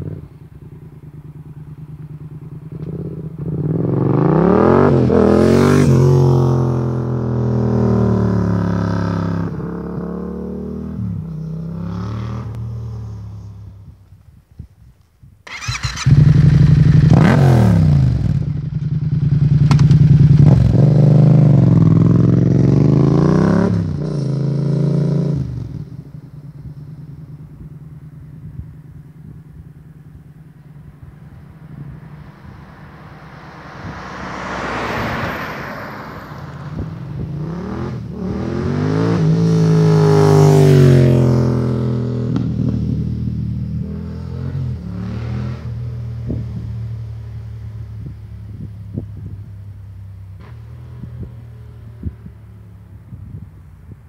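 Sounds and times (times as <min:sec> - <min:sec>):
motorcycle engine revving: 0:00.0 - 0:13.6, 0:15.5 - 0:53.4.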